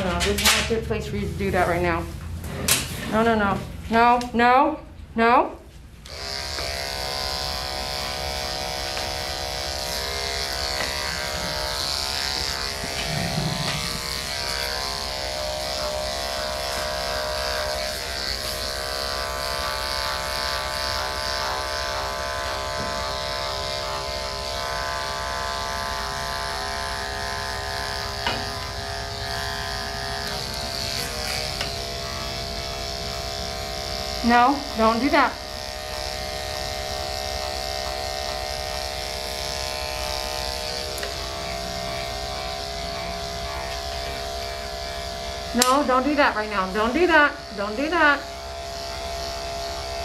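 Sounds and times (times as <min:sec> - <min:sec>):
electric dog clipper humming: 0:00.0 - 0:02.2, 0:06.0 - 0:50.0.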